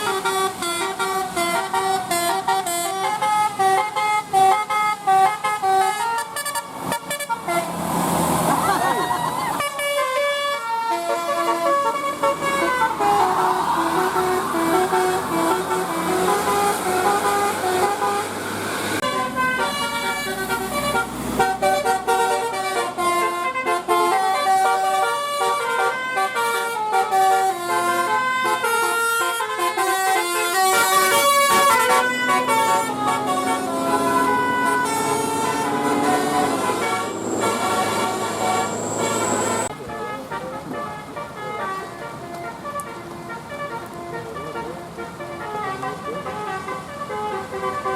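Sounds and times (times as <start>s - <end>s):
multi-tone bus air horn melody: 0.0s - 7.9s, 9.6s - 47.9s.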